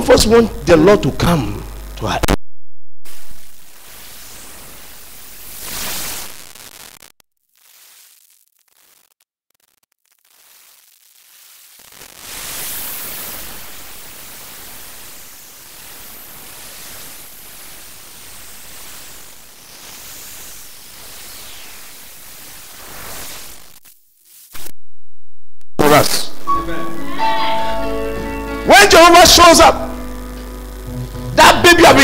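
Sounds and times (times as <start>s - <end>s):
static hiss: 0.0s - 2.4s, 3.0s - 24.8s, 25.8s - 32.0s.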